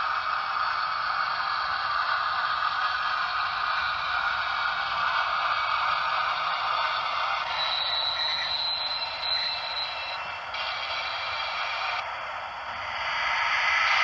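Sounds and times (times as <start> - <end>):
model train running hiss: 0.0 - 14.0
thin high whine: 0.0 - 14.0.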